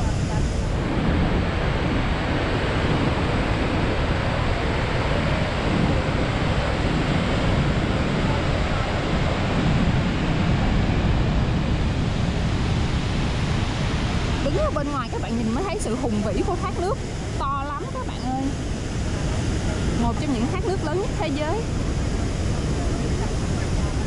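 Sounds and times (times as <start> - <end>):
wind gusting on microphone: 0.0 - 24.0.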